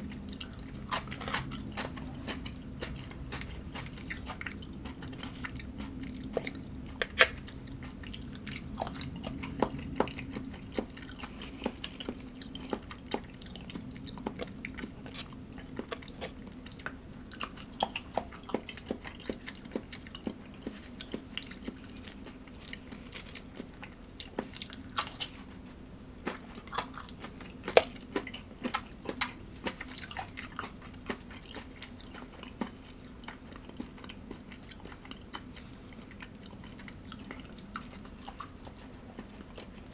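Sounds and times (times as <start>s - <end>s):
faint low hum: 0.0s - 39.9s
person chewing food: 0.0s - 39.9s.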